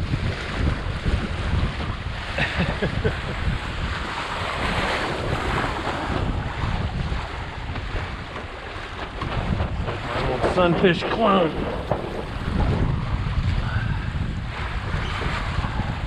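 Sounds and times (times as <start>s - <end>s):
water splashing along hull: 0.0s - 16.0s
wind buffeting microphone: 0.0s - 16.0s.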